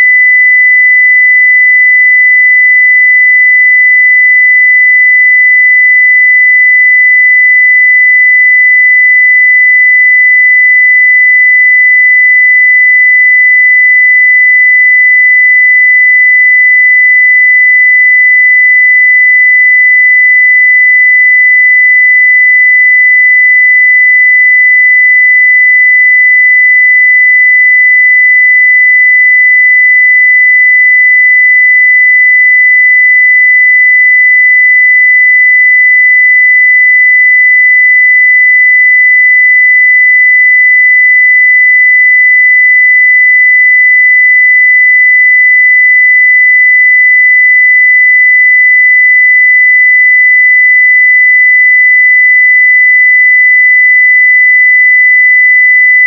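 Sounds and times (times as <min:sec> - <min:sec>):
sine wave test tone: 0:00.0 - 0:56.0.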